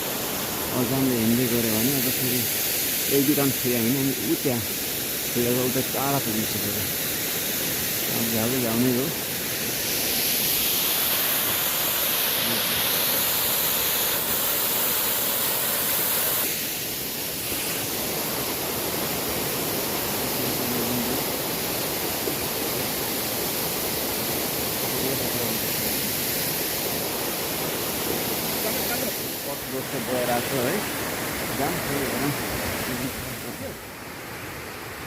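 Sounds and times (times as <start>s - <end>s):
waterfall roaring: 0.0s - 35.0s.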